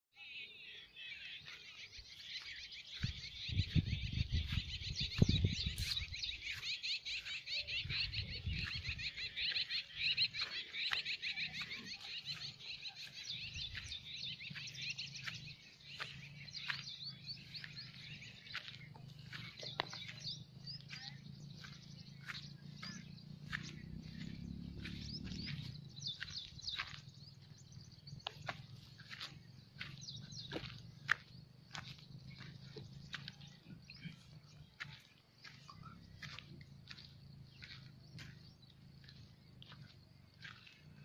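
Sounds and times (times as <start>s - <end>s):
birds chirping: 0.1s - 41.0s.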